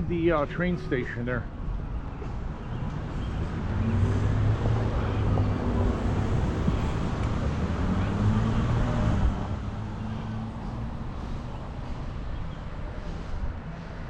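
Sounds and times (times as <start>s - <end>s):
traffic noise: 0.0s - 14.0s
vehicle engine humming: 1.5s - 14.0s.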